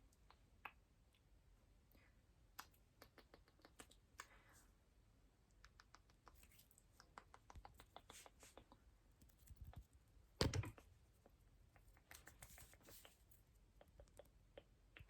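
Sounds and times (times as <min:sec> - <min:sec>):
soft mouth clicks and smacks: 0:00.0 - 0:01.3, 0:01.9 - 0:04.5, 0:05.4 - 0:15.0.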